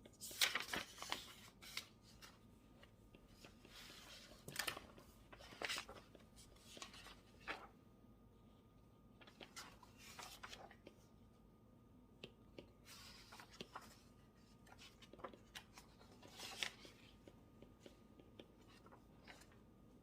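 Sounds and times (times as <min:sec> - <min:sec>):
paper rustling: 0:00.1 - 0:07.7, 0:09.2 - 0:11.0, 0:12.6 - 0:19.8.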